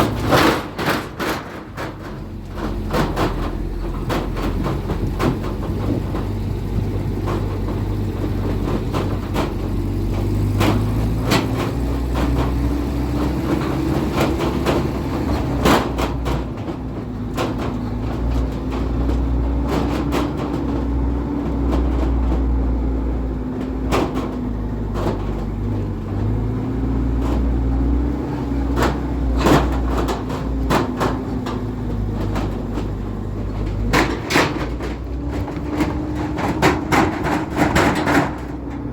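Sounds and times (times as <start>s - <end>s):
knocks and rattles: 0.0s - 38.9s
vehicle engine running: 0.0s - 38.9s.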